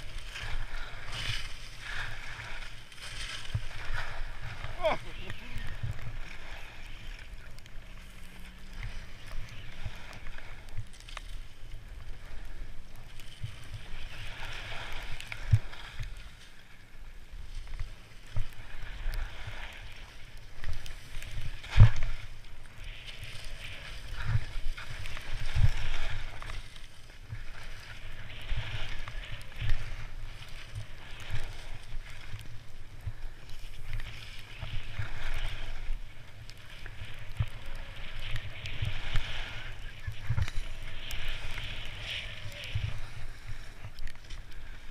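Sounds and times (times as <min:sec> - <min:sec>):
skis scraping over snow: 0:00.0 - 0:44.9.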